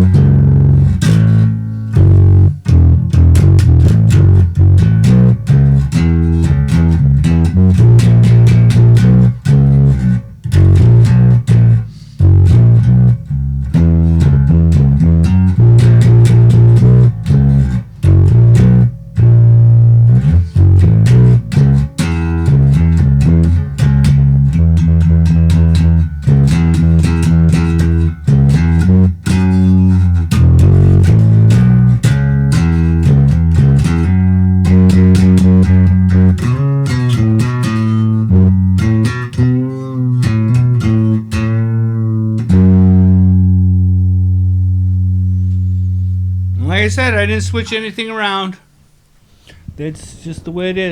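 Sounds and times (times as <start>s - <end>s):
plucked electric bass notes: 0.0s - 48.9s.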